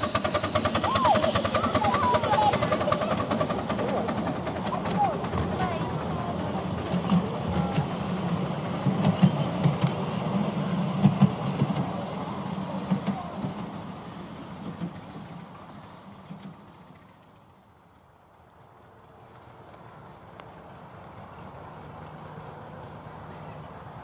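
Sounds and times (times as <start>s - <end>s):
miniature train rumbling on track: 0.0s - 24.0s.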